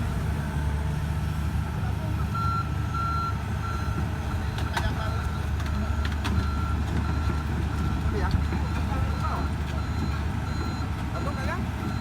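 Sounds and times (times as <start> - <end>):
diesel engine rumble: 0.0 - 12.0.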